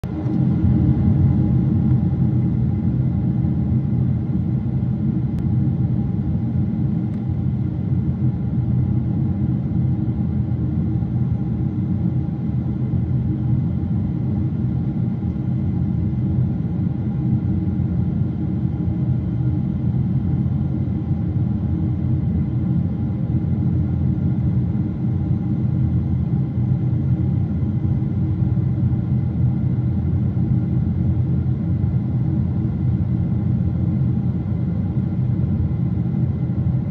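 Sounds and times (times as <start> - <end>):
airplane cabin engine rumble: 0.0 - 36.9
faint steady hum: 0.0 - 36.9.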